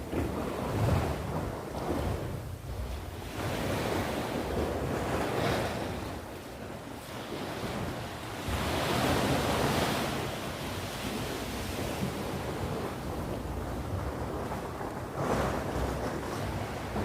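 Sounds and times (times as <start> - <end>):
sea waves washing in: 0.0 - 17.0
wind rumble on microphone: 0.0 - 17.0.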